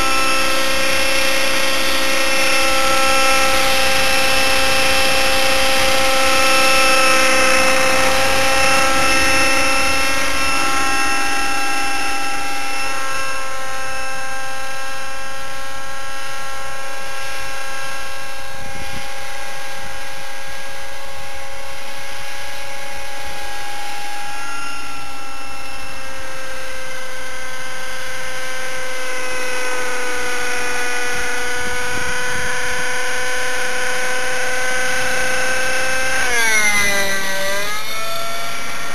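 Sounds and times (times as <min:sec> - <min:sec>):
rc helicopter engine whining: 0:00.0 - 0:38.9.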